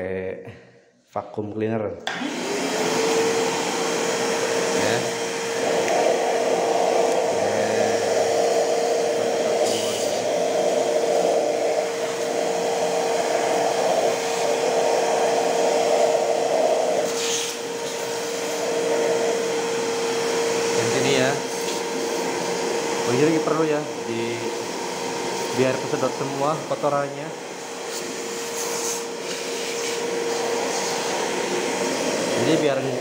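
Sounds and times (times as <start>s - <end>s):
vacuum cleaner whining: 2.0s - 33.0s.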